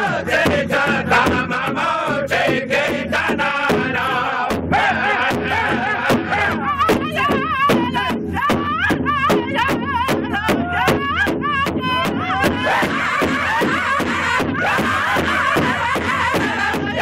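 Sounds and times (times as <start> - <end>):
group singing in unison: 0.0 - 17.0
large drum steady beat: 0.0 - 17.0.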